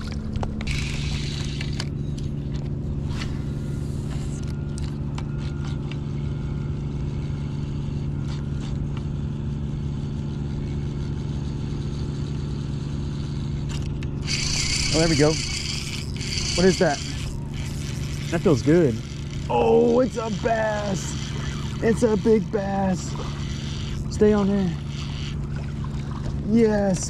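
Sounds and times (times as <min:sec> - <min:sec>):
boat motor humming: 0:00.0 - 0:27.0.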